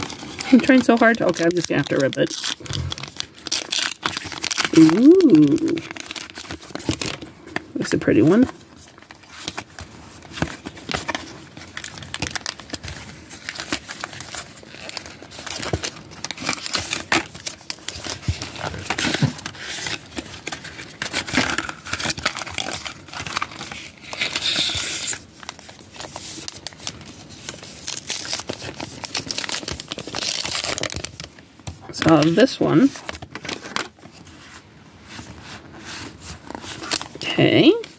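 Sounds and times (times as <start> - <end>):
packaging crinkling and tearing: 0.0 - 37.9.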